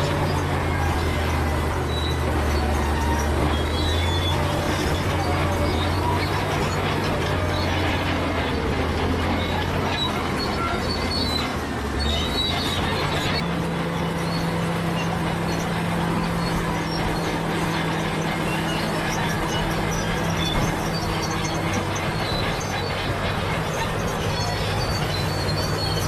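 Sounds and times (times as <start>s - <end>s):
bulldozer diesel engine: 0.0s - 26.0s
steel tracks squeaking and clattering: 0.0s - 26.0s.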